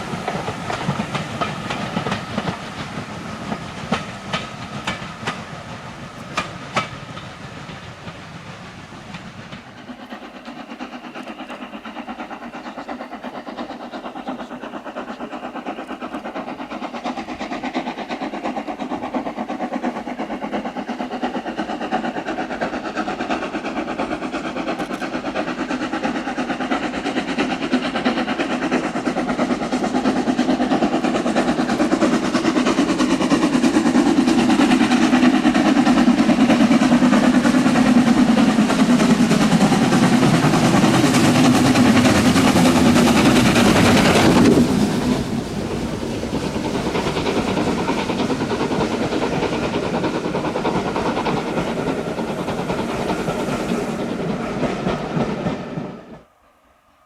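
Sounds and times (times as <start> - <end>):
steam train passing: 0.0 - 57.0
wheels clicking over rail joints: 0.2 - 8.2, 9.1 - 56.2.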